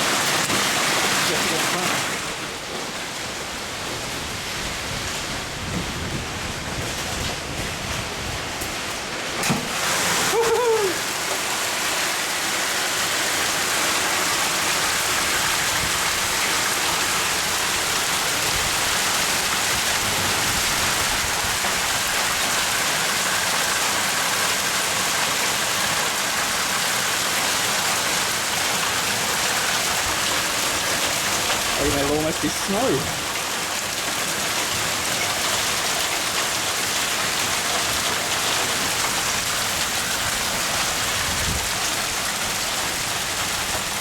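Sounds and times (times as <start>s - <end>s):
hail and heavy rain: 0.0s - 44.0s.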